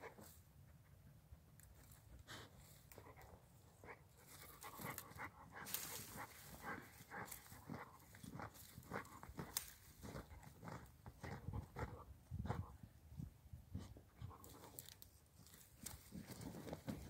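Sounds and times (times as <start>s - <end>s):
dog digging in soil: 1.7s - 12.8s, 13.8s - 17.0s
dog snuffling and breathing: 1.8s - 17.0s.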